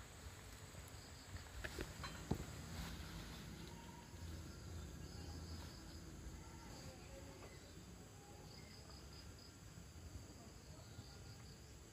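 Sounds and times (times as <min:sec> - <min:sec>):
crickets chirping: 0:00.0 - 0:11.9.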